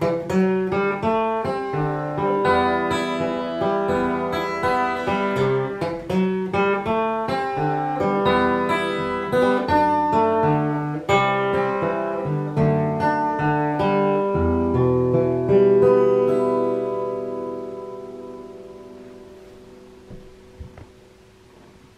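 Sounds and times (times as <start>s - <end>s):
acoustic guitar picking blues: 0.0s - 21.9s.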